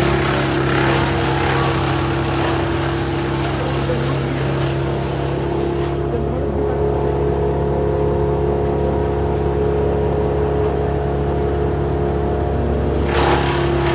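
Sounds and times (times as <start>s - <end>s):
engine running steadily: 0.0s - 13.9s.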